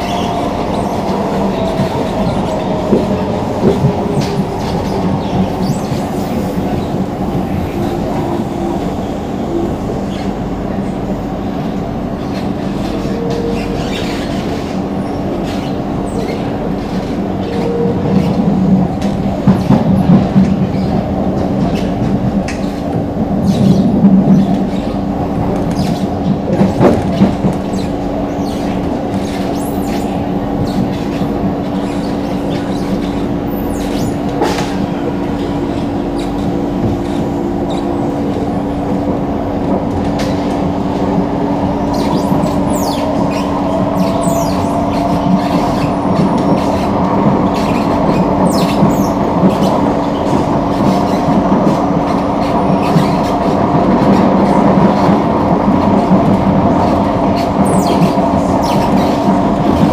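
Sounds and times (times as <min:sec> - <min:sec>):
train rumbling on track: 0:00.0 - 0:59.9.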